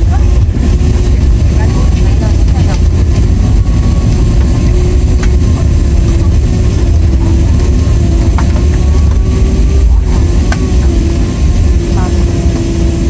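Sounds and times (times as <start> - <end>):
engines and wheels rumbling: 0.0 - 13.0
steady hum: 0.0 - 13.0.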